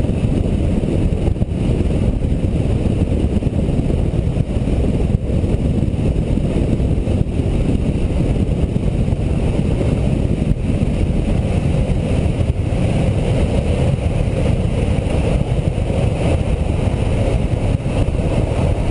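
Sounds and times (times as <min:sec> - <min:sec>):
wheels rolling on asphalt: 0:00.0 - 0:18.9
wind buffeting microphone: 0:00.0 - 0:18.9.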